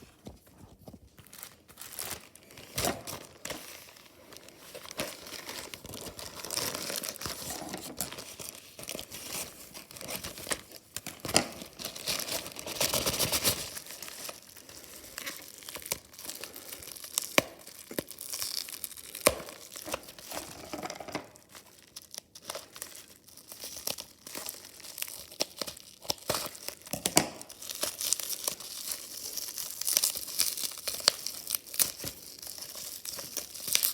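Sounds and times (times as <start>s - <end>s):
packaging crinkling and tearing: 0.0s - 33.9s.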